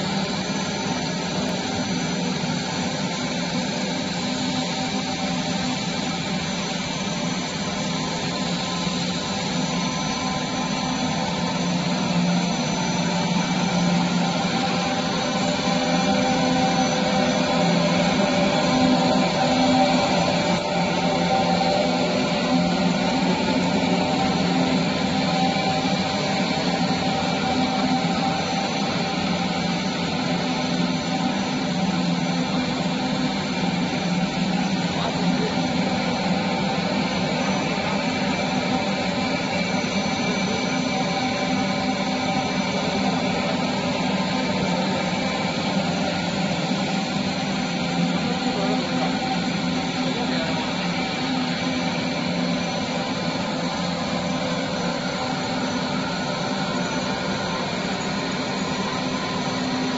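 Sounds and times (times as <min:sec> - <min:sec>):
machine drone with pitched tones: 0:00.0 - 0:59.9.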